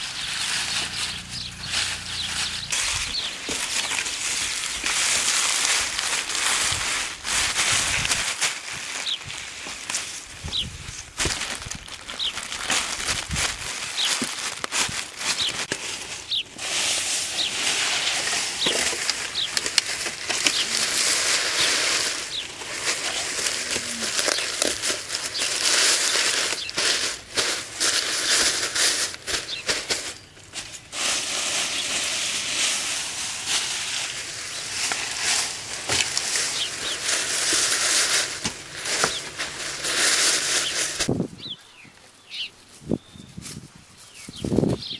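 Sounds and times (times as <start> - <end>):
leaves rustling and crackling: 0.0 - 44.9.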